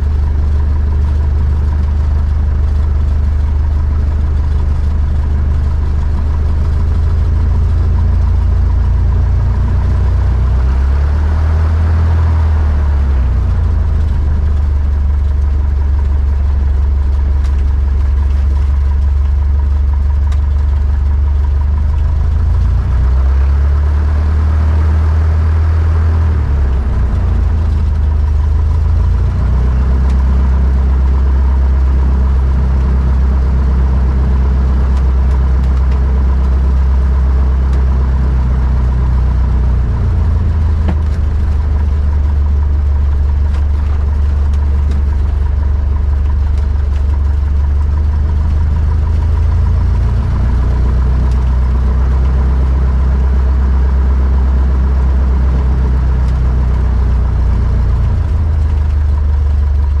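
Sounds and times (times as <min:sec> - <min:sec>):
light aircraft engine and propeller: 0:00.0 - 1:00.0.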